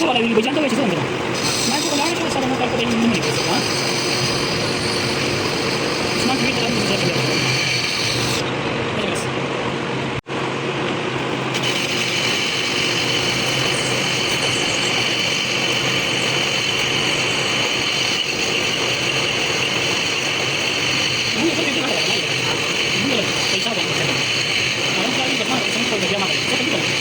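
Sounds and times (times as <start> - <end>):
workshop machine running: 0.0 - 27.0.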